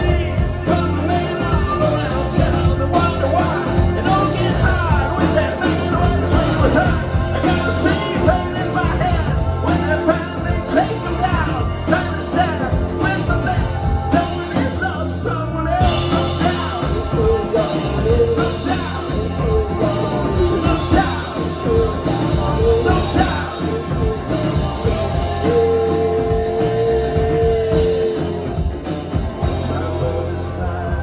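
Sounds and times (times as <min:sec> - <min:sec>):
drums: 0:00.0 - 0:31.0
electric guitar: 0:00.0 - 0:31.0
person singing lead vocals: 0:00.0 - 0:31.0.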